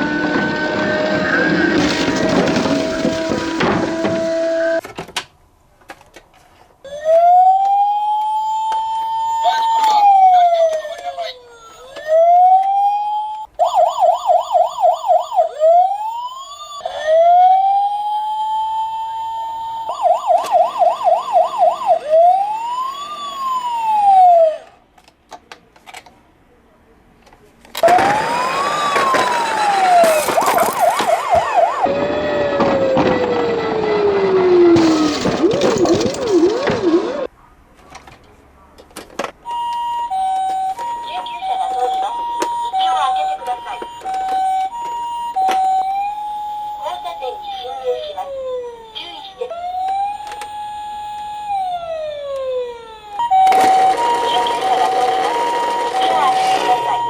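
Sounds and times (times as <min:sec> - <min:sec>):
emergency vehicle siren wailing: 0:00.0 - 0:04.8, 0:06.8 - 0:24.8, 0:27.8 - 0:37.3, 0:39.4 - 0:57.0.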